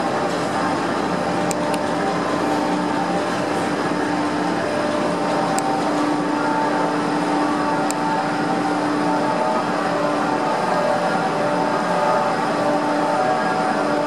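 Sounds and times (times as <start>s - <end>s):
winch mechanical hum and rumble: 0.0s - 14.0s.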